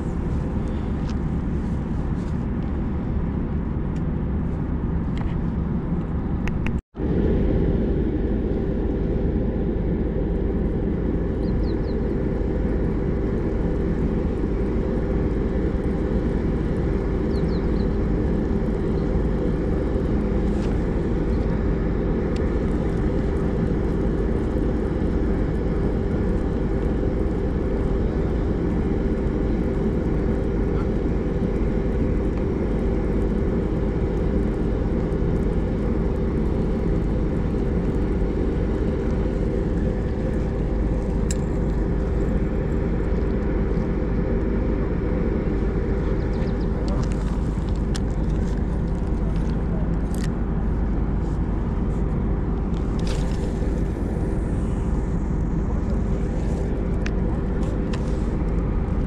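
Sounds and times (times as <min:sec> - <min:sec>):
machinery rumble with hum: 0:00.0 - 0:59.0.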